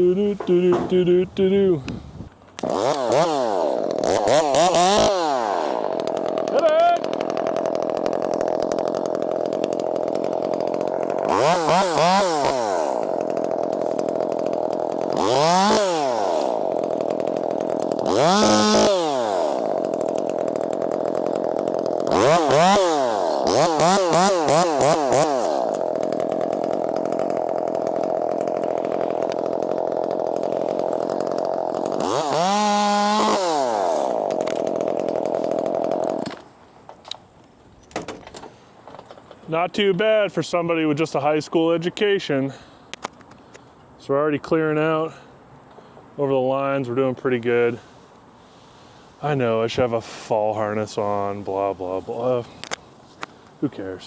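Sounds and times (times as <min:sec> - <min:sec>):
chainsaw idling and revving: 0:00.0 - 0:36.6, 0:38.9 - 0:49.7, 0:50.4 - 0:54.0.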